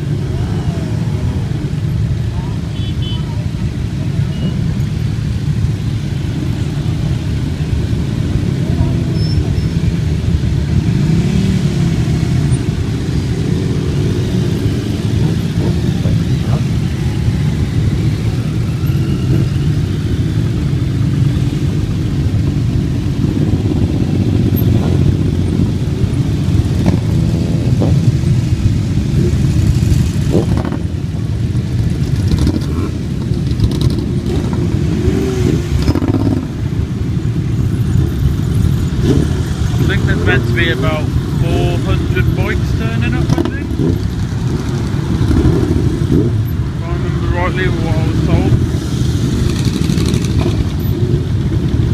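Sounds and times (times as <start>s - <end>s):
motorcycle engines running: 0.0s - 51.9s.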